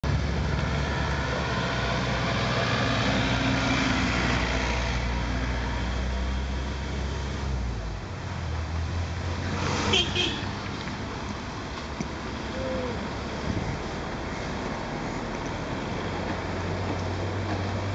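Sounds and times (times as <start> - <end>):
large engine humming: 0.0 - 17.9
road traffic noise: 0.0 - 17.9.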